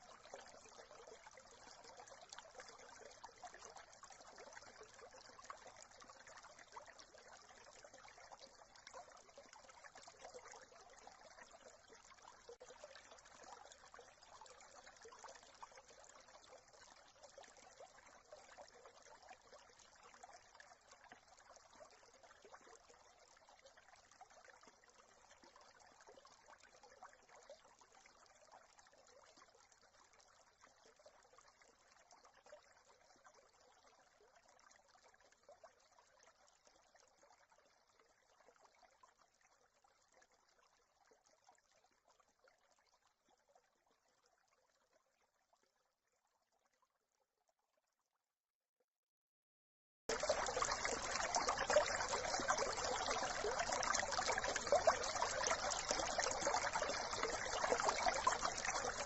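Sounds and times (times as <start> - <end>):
brook trickling: 0.0 - 40.8, 50.1 - 59.0.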